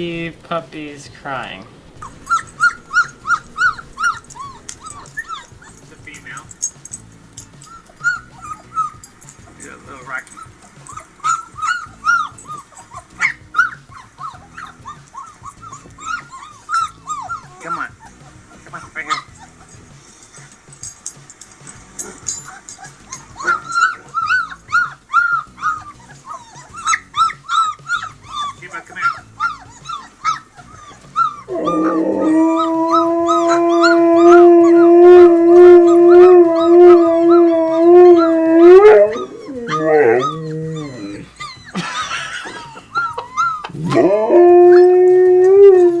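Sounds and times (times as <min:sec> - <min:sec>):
background music: 0:00.0 - 0:46.0
puppies whimpering: 0:01.3 - 0:21.0, 0:21.6 - 0:46.0
husky howling: 0:01.4 - 0:06.5, 0:07.6 - 0:18.2, 0:22.0 - 0:46.0.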